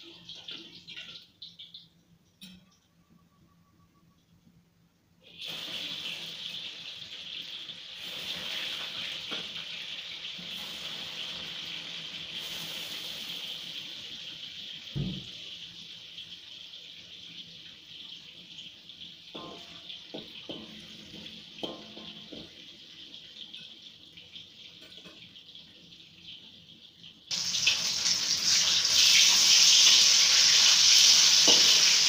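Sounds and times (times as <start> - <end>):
tofu sizzling in hot oil: 5.4 - 32.0.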